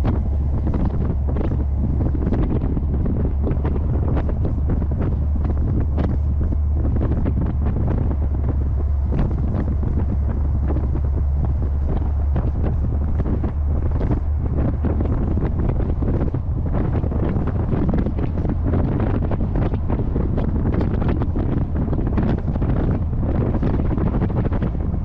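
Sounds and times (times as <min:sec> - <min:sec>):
car low drone: 0:00.0 - 0:25.0
wind buffeting microphone: 0:00.0 - 0:25.0.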